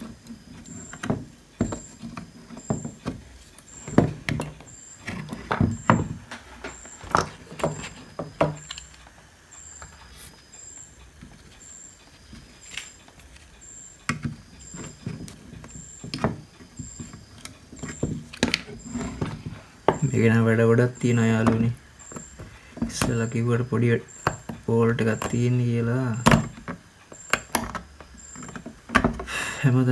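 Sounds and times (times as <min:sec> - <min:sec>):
hand tools clicking and scraping: 0:00.0 - 0:29.9.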